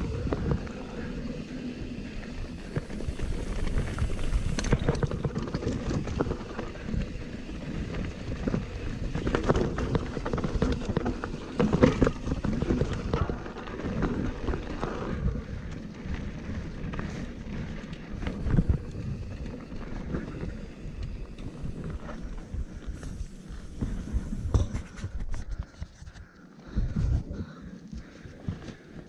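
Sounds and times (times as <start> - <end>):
bike frame rattling: 0.0 - 25.4.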